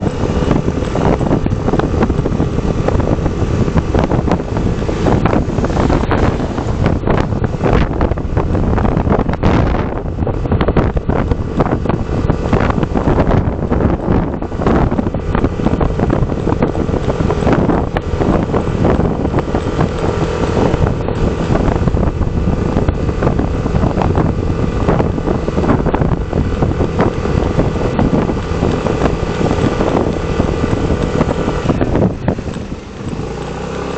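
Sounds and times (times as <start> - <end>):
steady low rumble: 0.0 - 33.6
wind buffeting microphone: 0.0 - 33.9.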